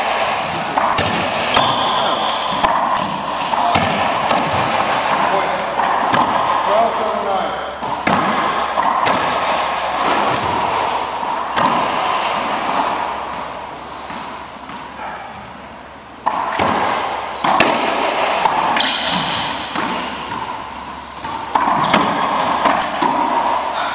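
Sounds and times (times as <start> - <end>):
racquetball hits echoing in court: 0.0 - 23.9.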